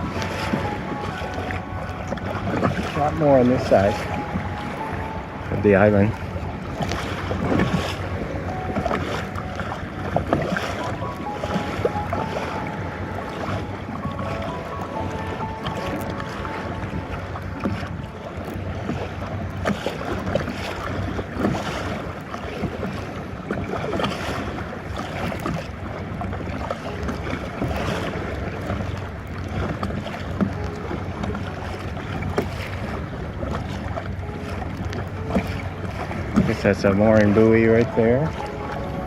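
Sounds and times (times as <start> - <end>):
kayak paddle splashing: 0.0 - 39.0
water slapping against kayak: 0.0 - 39.0
wind buffeting microphone: 0.0 - 39.0.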